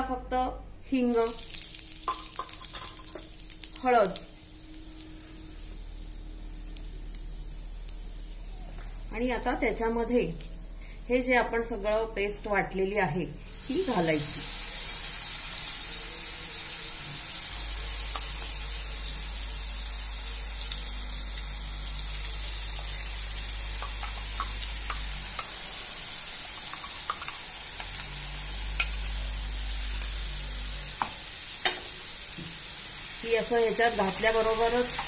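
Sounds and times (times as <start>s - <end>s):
paste sizzling in hot oil: 1.1s - 8.6s, 13.4s - 35.0s.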